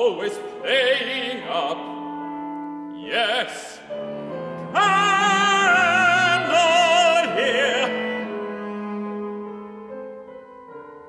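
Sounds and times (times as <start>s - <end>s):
baritone singing with vibrato: 0.0s - 8.9s
cello: 0.0s - 11.0s
piano: 0.0s - 11.0s.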